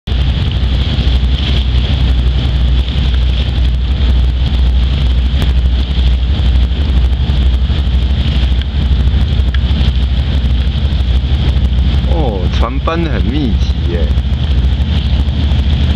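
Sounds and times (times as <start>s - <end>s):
wind buffeting microphone: 0.0s - 15.9s
boat engines droning: 0.1s - 15.9s.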